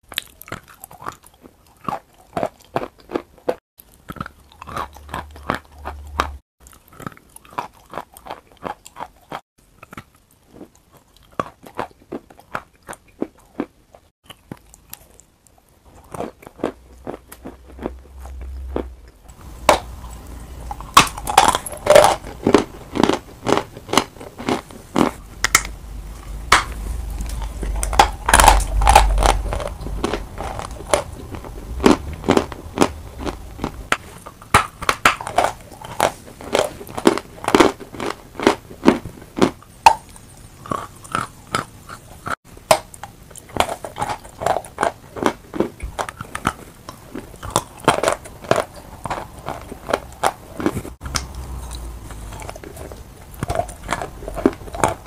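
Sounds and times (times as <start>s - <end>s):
crunching chalk between teeth: 0.0s - 55.0s.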